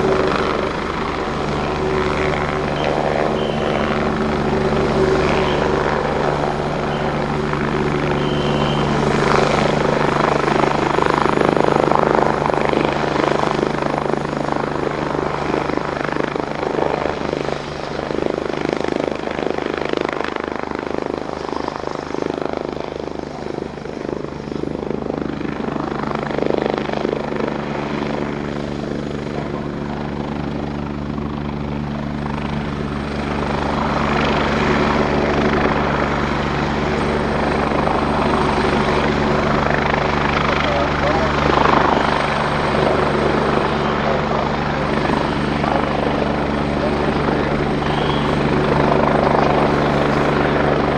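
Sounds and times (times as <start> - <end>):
helicopter rotor chop: 0.0 - 50.9
helicopter turbine whine: 0.0 - 50.9.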